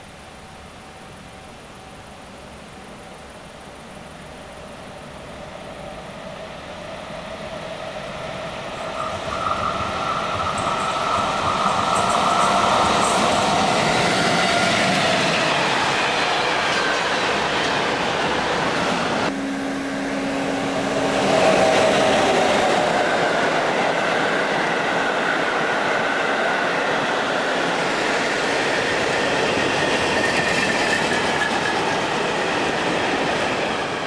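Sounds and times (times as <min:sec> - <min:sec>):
train wheels rumbling on rails: 0:02.4 - 0:34.0.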